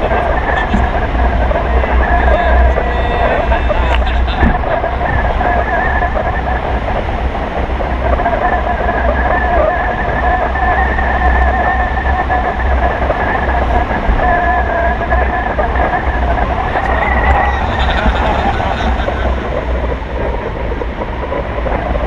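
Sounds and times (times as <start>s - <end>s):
steady whistling tones: 0.0s - 22.0s
wind buffeting rumble: 0.0s - 22.0s.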